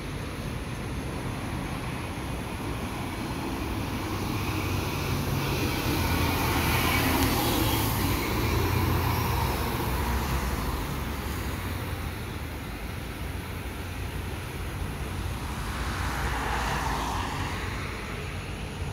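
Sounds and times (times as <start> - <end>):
low rumble of passing vehicles: 0.0 - 18.9.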